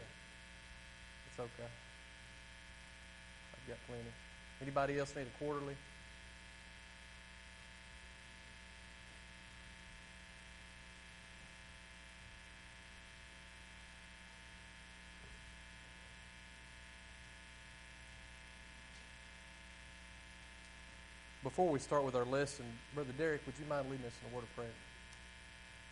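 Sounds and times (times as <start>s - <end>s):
electrical mains hum: 0.0s - 25.9s.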